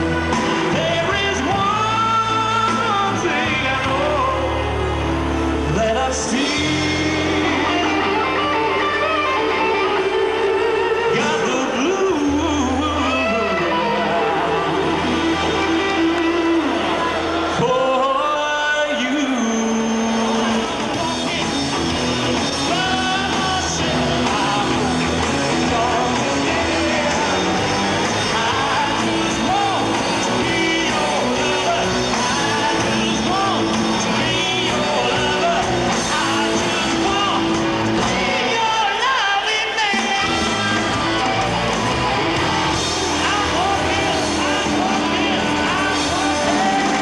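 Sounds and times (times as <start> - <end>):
man singing: 0.0 - 4.9, 5.6 - 9.6, 10.9 - 14.6, 17.4 - 41.8, 42.9 - 47.0
live rock band playing: 0.0 - 47.0.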